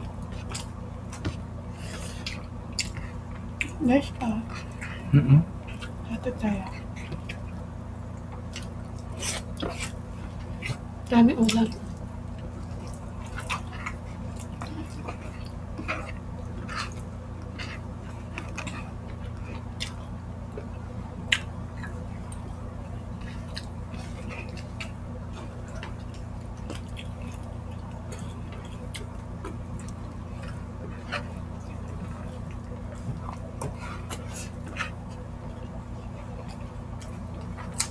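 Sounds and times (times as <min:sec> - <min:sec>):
chewing and mouth smacks: 0:00.0 - 0:03.8, 0:05.6 - 0:06.0, 0:06.7 - 0:37.9
steady low hum: 0:00.0 - 0:37.9.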